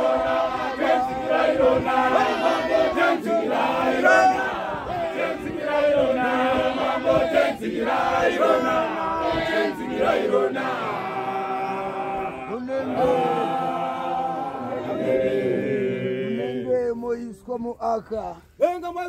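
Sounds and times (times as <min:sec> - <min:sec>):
congregation singing a hymn: 0:00.0 - 0:16.8.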